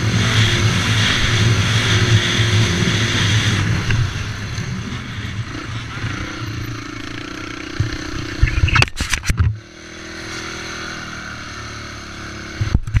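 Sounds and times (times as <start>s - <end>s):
quad engine running at low revs: 0.0s - 13.0s.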